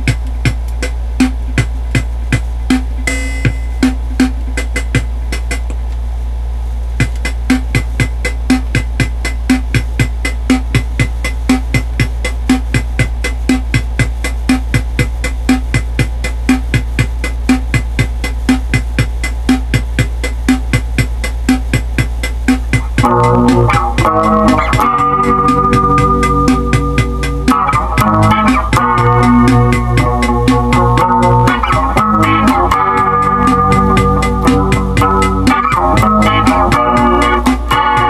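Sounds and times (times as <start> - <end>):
drum machine beat: 0.0 - 38.0
steady low hum: 0.0 - 38.0.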